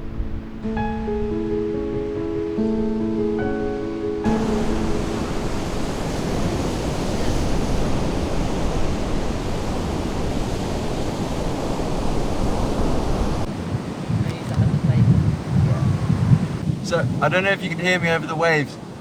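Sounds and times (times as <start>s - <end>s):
sea surf washing on beach: 0.0s - 19.0s
wind: 0.0s - 19.0s.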